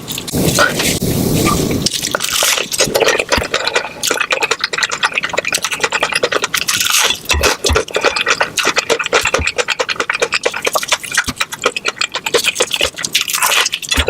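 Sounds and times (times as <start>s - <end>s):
crunching and chewing fried chicken: 1.7s - 14.0s.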